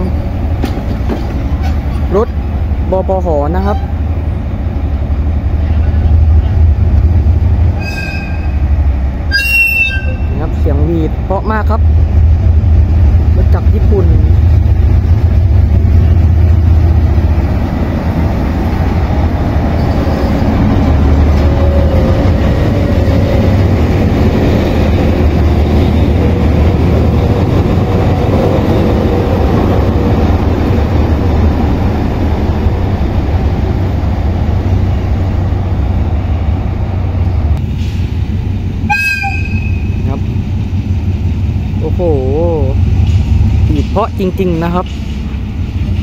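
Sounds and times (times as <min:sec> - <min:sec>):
locomotive engine rumble: 0:00.0 - 0:46.0.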